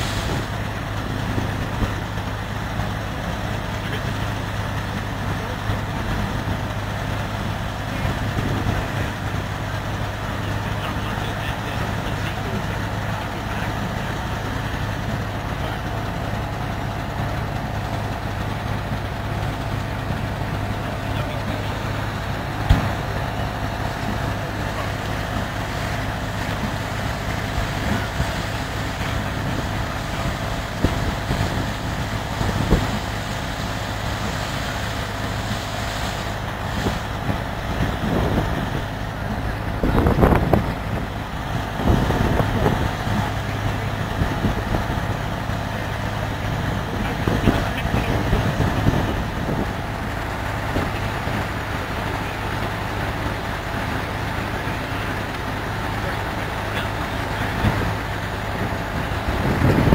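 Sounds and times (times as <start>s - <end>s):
thresher running: 0.0s - 59.9s
tractor engines idling: 0.0s - 59.9s.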